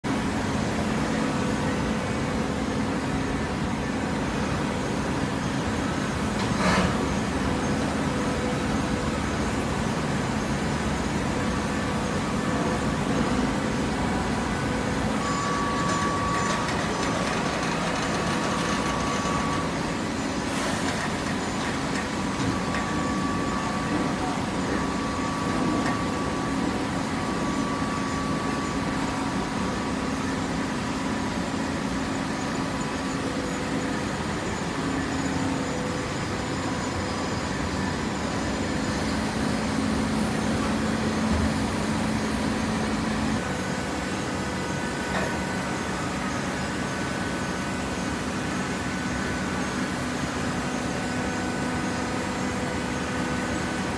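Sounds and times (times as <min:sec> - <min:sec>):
hydraulic baler humming: 0:00.1 - 0:53.9.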